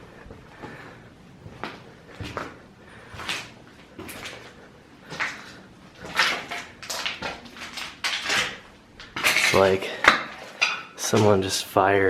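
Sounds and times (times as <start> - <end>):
footsteps crunching over debris: 0.0 - 11.5.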